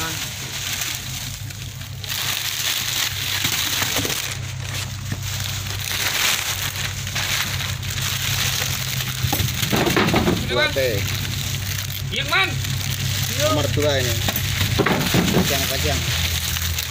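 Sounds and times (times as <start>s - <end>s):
low engine hum: 0.0s - 16.9s
plastic bag crinkling: 0.0s - 16.9s.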